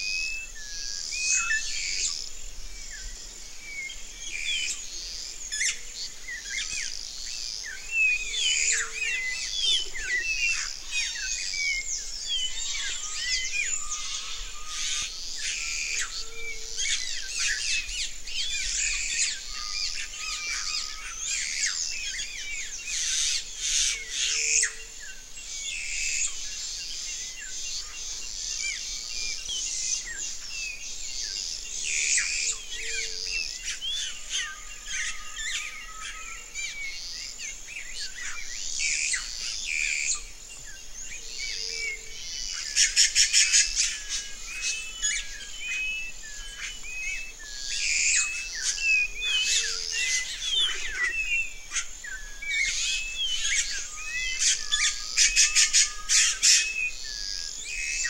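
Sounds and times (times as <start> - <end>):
birds chirping and whistling: 0.0 - 58.0.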